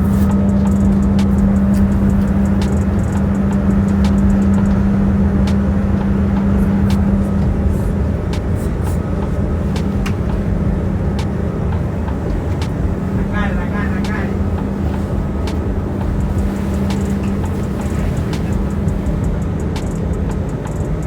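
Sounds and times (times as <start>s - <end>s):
vehicle ride rumble: 0.0s - 21.0s.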